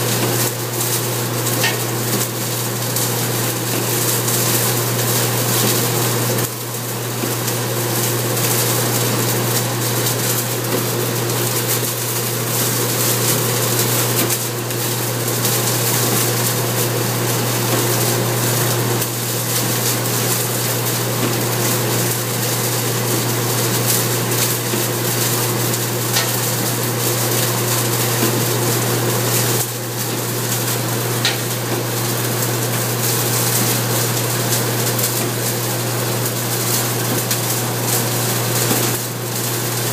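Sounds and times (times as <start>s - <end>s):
straw-processing machine running: 0.0s - 39.9s.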